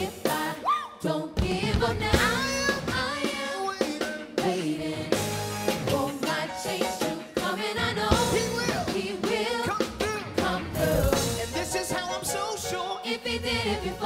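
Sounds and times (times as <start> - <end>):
backing singers: 0.0 - 14.0
band with drums: 1.4 - 12.8.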